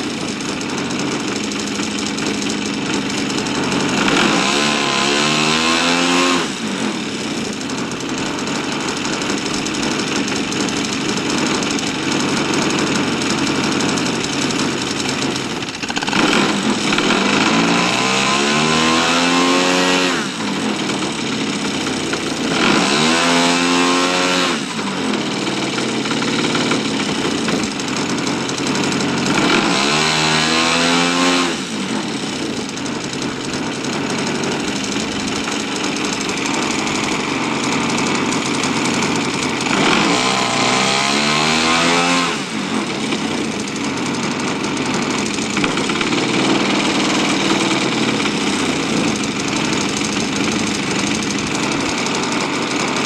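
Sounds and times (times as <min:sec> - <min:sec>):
model airplane engine revving: 0:00.0 - 0:53.0.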